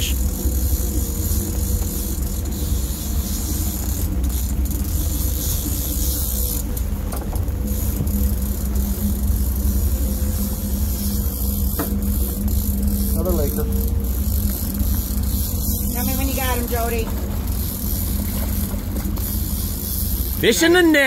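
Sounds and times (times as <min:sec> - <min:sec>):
boat engine droning: 0:00.0 - 0:21.0
wind: 0:00.0 - 0:21.0.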